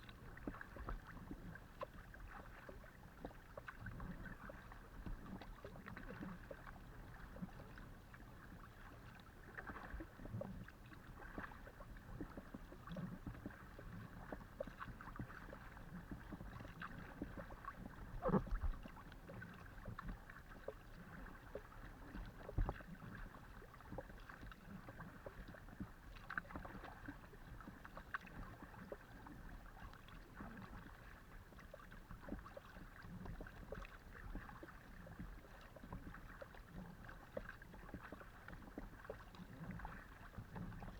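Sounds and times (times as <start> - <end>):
kayak paddle in water: 0.0 - 40.9.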